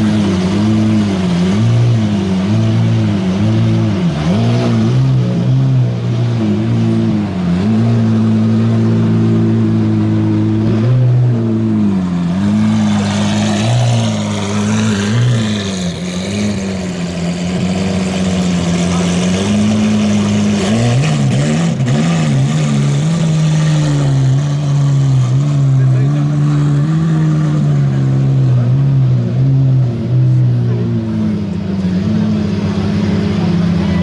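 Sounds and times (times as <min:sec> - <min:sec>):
car engine at low revs: 0:00.0 - 0:34.0
engine throttle blips: 0:00.0 - 0:34.0.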